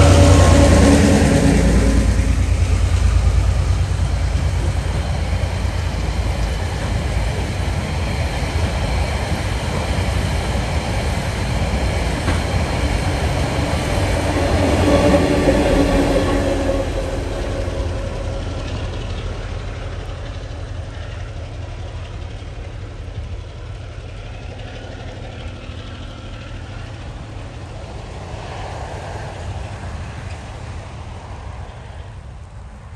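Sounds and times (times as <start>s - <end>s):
diesel locomotive rumble: 0.0s - 32.9s
train wagons on rails: 0.0s - 32.9s.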